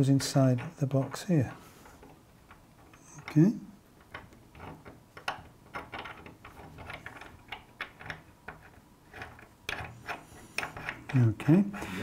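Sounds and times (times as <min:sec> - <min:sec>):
metal threads clicking and scraping: 0:00.0 - 0:11.2.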